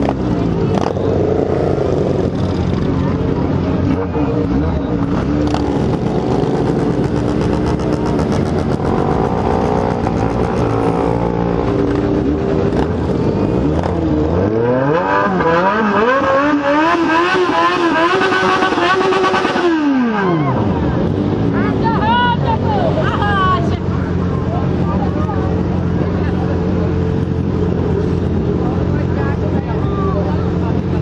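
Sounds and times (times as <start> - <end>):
motorcycle engine revving: 0.0 - 31.0
motorcycle engines running: 0.0 - 31.0.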